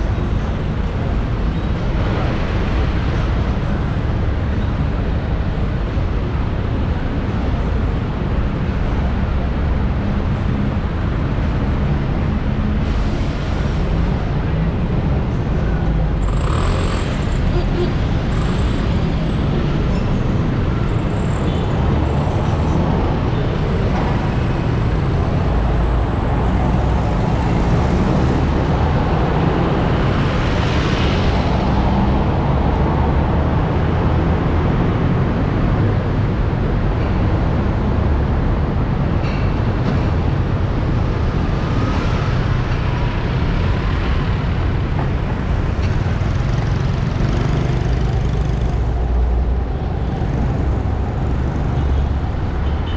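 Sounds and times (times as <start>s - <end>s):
road and traffic noise: 0.0s - 52.9s.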